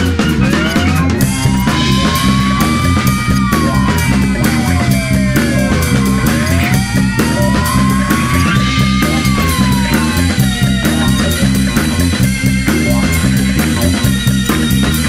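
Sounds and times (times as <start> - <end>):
rock music with guitar and drums: 0.0 - 15.0
sliding guitar notes: 0.0 - 15.0.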